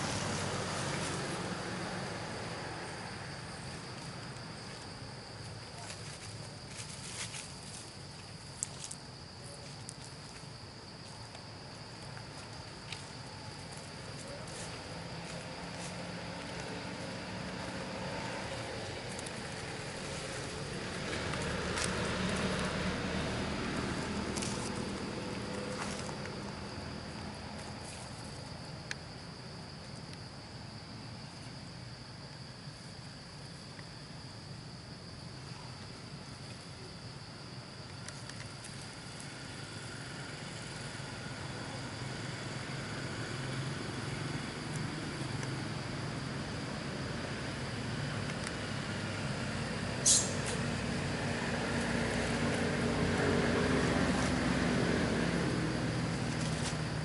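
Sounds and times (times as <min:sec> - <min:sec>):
passing traffic rumble: 0:00.0 - 0:32.1, 0:37.5 - 0:57.0
high insect drone: 0:00.0 - 0:57.0.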